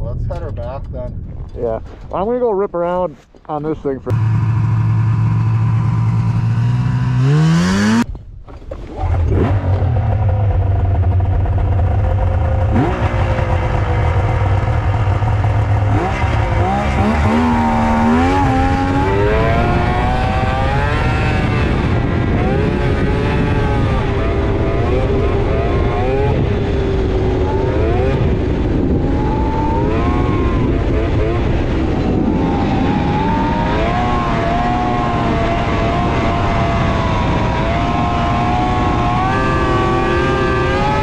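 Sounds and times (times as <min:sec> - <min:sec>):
snowmobile engine idling and revving: 0:00.1 - 0:08.1, 0:08.9 - 0:41.0.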